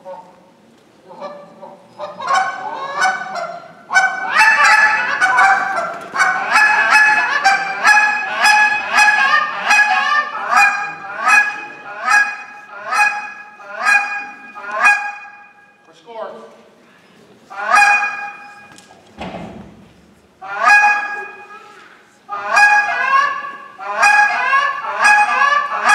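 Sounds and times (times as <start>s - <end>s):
goose call honks and clucks: 1.1s - 15.6s, 17.5s - 18.7s, 20.4s - 25.9s.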